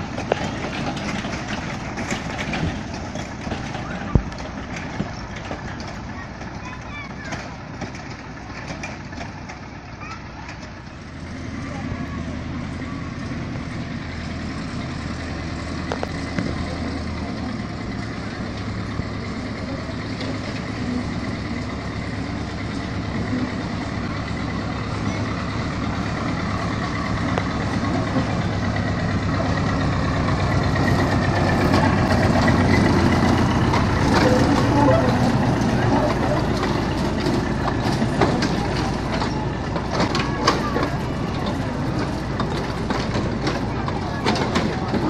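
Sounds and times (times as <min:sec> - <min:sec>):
miniature train engine running: 0:00.0 - 0:45.0.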